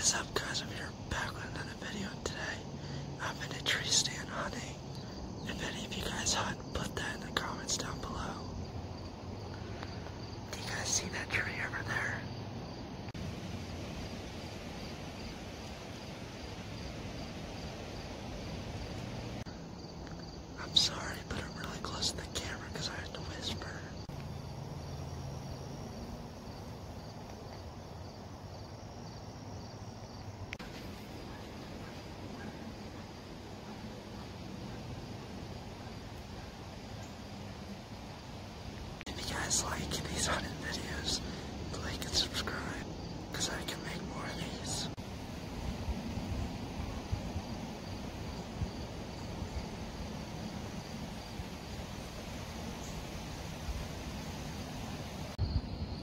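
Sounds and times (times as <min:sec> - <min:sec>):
insects chirping in pulses: 0:00.0 - 0:56.0.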